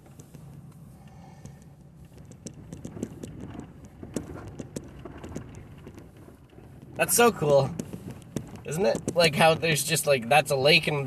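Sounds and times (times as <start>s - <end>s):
car cabin low rumble: 0.0s - 11.0s
tyres crunching on snow and ice: 0.0s - 11.0s.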